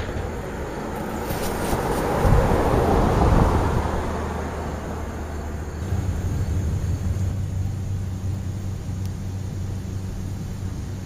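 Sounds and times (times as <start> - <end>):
vehicle passing by: 0.0 - 10.8
steady low hum: 0.0 - 11.0.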